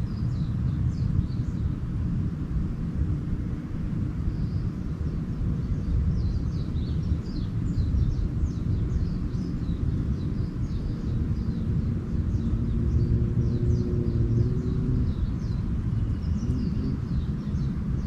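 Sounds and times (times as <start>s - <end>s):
small birds chirping: 0.0s - 2.4s, 3.3s - 18.0s
steady low rumble: 0.0s - 18.0s.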